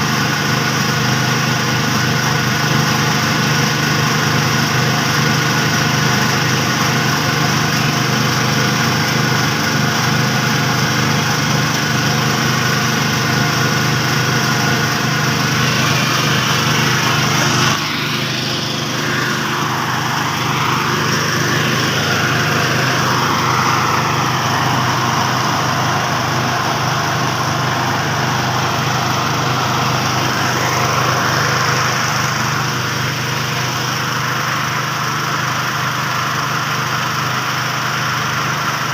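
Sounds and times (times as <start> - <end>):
threshing machine engine humming: 0.0 - 38.9.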